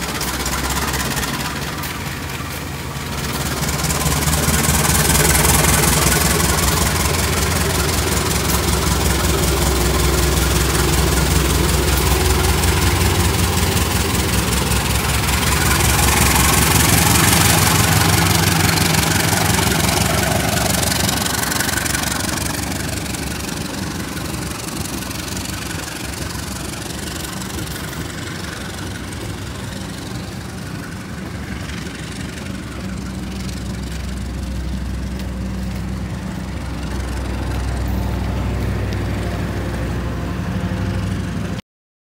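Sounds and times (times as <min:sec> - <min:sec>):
diesel locomotive running: 0:00.0 - 0:41.6
moving train noise: 0:00.0 - 0:41.6.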